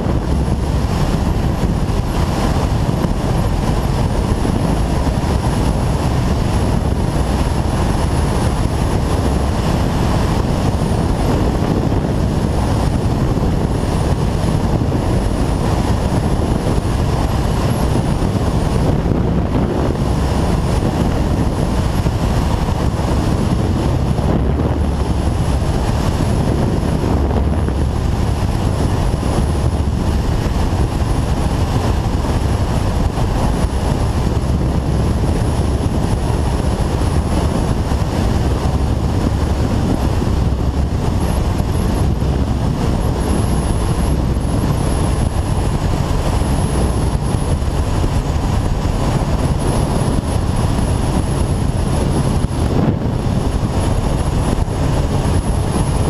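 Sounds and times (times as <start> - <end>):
motorcycle wind and road noise: 0.0 - 56.0
wind buffeting on microphone: 0.0 - 56.0.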